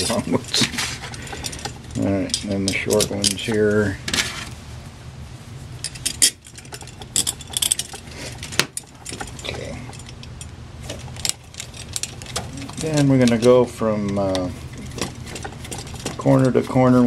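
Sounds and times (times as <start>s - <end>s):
screws clinking on metal: 0.0s - 3.8s, 5.8s - 17.0s.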